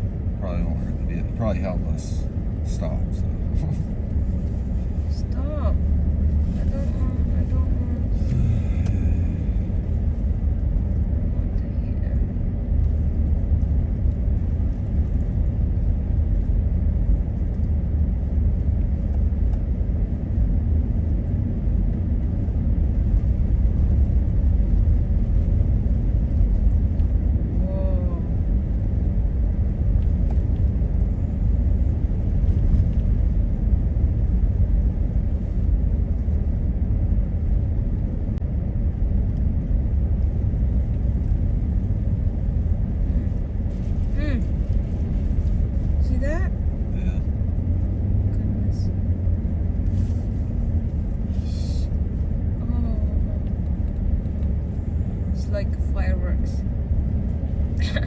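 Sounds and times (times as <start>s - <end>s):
truck engine and tyre rumble: 0.0s - 58.0s.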